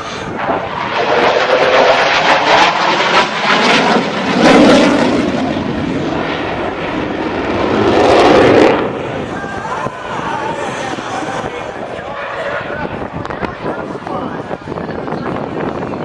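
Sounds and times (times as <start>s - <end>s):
airplane flying by: 0.0s - 16.0s.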